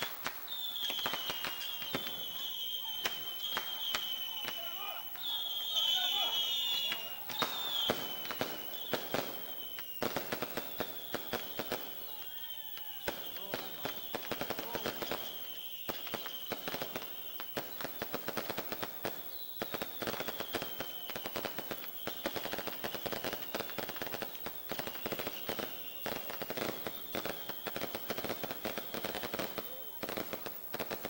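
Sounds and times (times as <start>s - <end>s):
high falling whistle: 0.0s - 18.0s, 19.2s - 30.1s
firecrackers popping: 0.0s - 31.0s.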